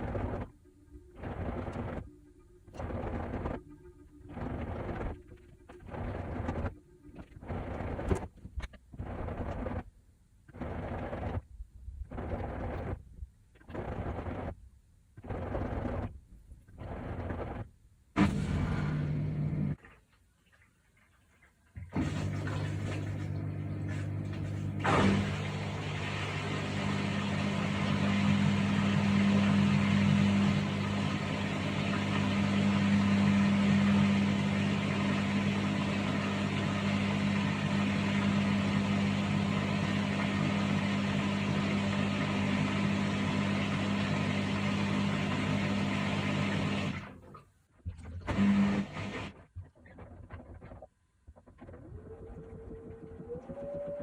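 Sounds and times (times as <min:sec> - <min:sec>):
washing machine hum: 0:00.0 - 0:09.8, 0:10.5 - 0:13.0, 0:16.7 - 0:50.7, 0:51.8 - 0:54.0.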